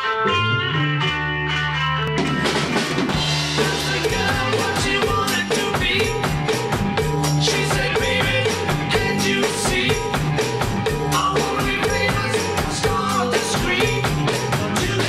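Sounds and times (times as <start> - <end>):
drum kit beat: 0.0 - 15.0
electric guitar and bass riff: 0.0 - 15.0.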